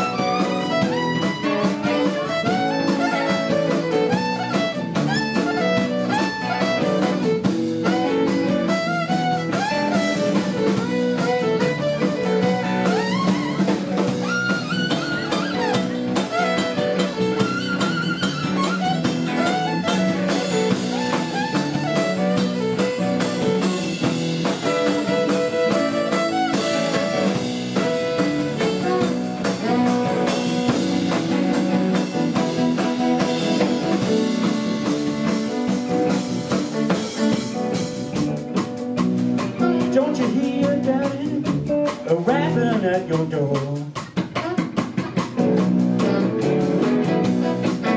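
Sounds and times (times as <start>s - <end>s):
violin: 0.0s - 42.9s, 44.4s - 47.9s
drum kit: 0.0s - 47.9s
guitar: 0.0s - 47.9s.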